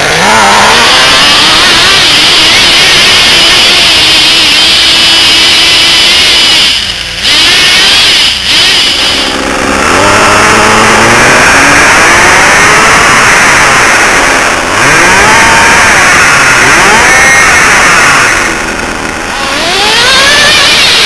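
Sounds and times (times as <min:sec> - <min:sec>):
rc truck engine revving: 0:00.0 - 0:21.0.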